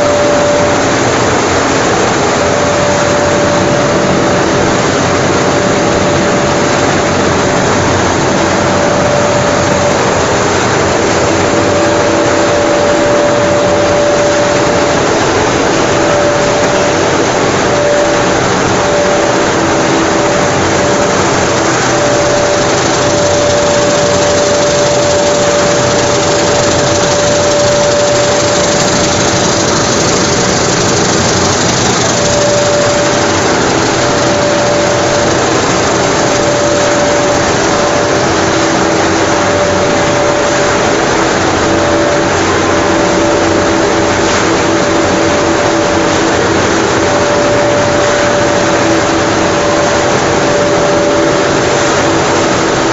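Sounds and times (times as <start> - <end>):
production line machinery running: 0.0 - 52.9.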